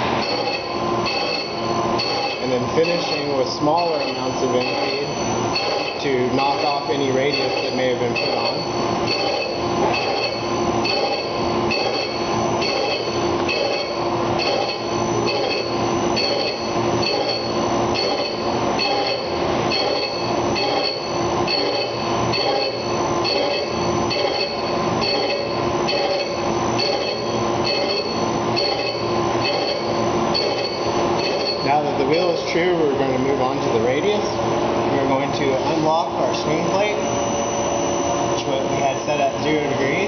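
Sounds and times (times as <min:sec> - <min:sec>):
grinding wheel squealing: 0:00.0 - 0:32.8.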